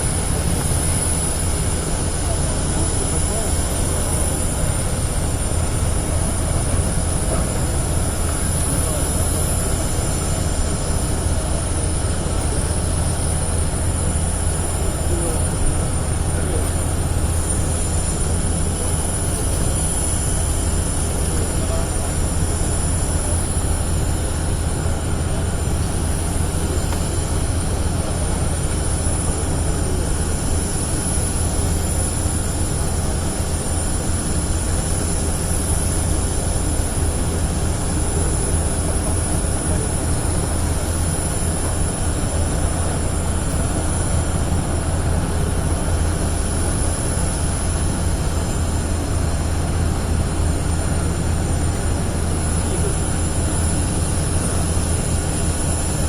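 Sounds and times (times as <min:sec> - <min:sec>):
engine drone with high whine: 0:00.0 - 0:56.0.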